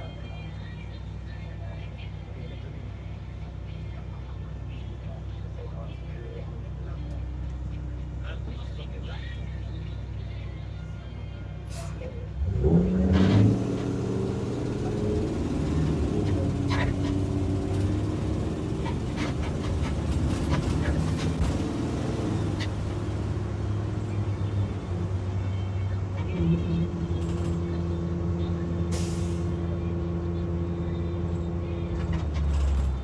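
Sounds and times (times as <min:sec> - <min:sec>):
bus engine running: 0:00.0 - 0:33.0.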